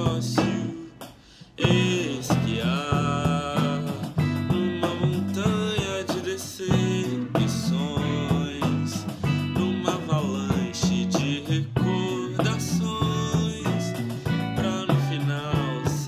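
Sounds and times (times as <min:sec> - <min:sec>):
electric bass line: 0:00.0 - 0:01.0, 0:01.6 - 0:16.0
drum kit with cymbals: 0:00.0 - 0:16.0
person singing: 0:00.0 - 0:16.0.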